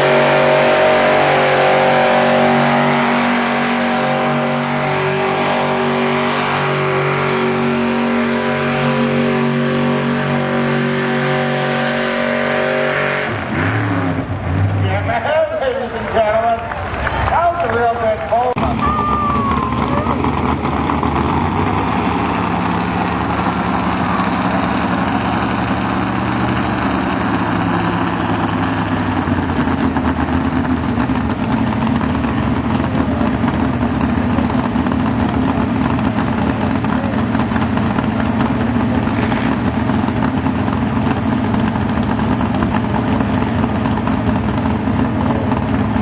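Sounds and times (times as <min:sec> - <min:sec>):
tractor engine running loud: 0:00.0 - 0:46.0.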